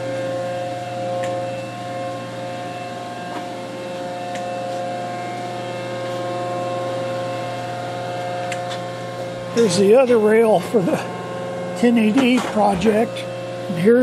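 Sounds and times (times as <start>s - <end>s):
hydraulic machine humming: 0.0s - 14.0s.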